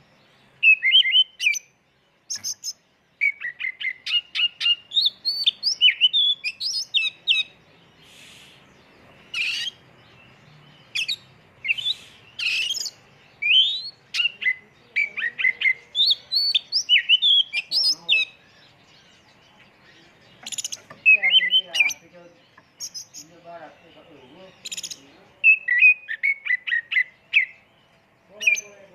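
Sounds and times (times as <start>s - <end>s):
bird harsh rasping notes: 0.0s - 27.7s
songbird singing whistled notes: 0.0s - 28.9s.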